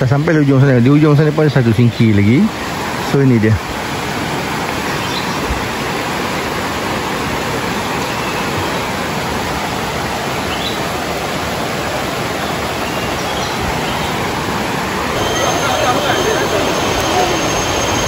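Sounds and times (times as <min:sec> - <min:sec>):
river rushing through rapids: 0:00.0 - 0:18.0.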